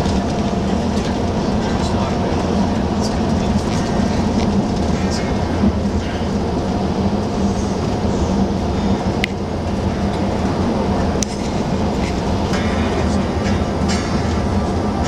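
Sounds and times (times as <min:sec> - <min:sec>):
coach engine drone: 0:00.0 - 0:15.0
road noise: 0:00.0 - 0:15.0.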